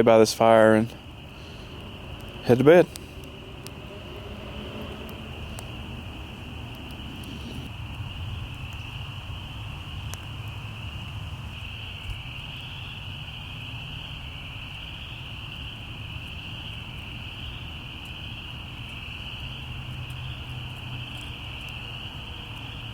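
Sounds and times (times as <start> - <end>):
campfire crackles: 0.0 - 22.9
chorus of night animals: 0.0 - 22.9.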